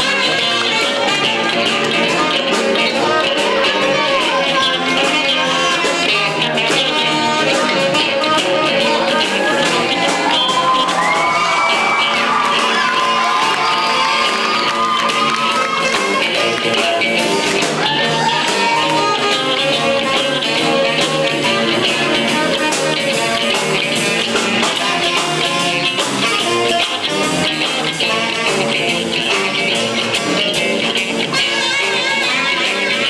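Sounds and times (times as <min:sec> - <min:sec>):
rock music with guitar: 0:00.0 - 0:33.0.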